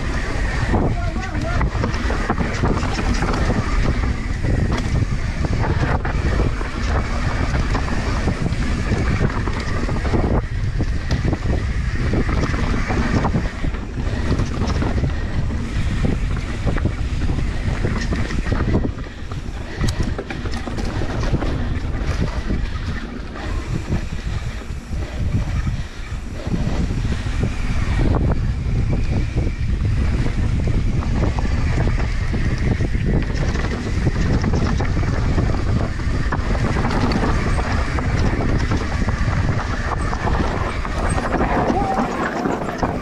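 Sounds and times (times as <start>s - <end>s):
bike knocks and rattles: 0.0s - 43.0s
steady rumble: 0.0s - 43.0s
wind buffeting microphone: 0.0s - 43.0s.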